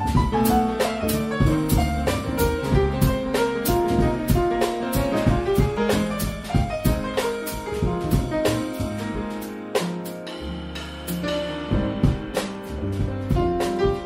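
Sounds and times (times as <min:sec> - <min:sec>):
double bass: 0:00.0 - 0:14.0
drum kit cymbals: 0:00.0 - 0:14.0
piano: 0:00.0 - 0:14.0.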